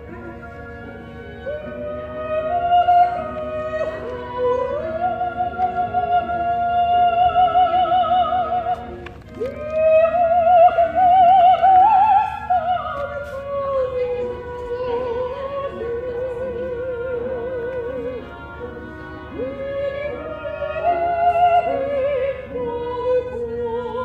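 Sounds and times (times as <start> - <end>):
operatic singing with vibrato: 0.0 - 24.0.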